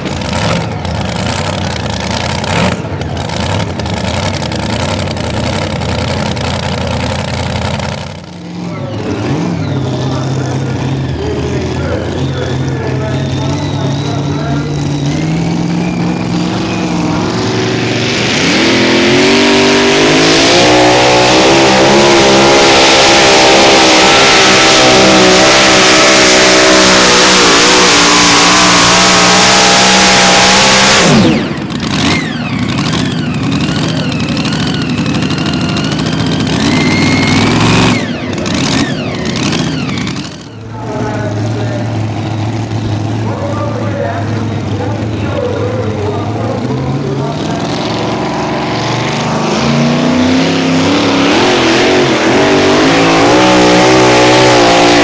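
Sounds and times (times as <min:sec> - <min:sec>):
truck engine revving at full throttle: 0:00.0 - 0:55.0.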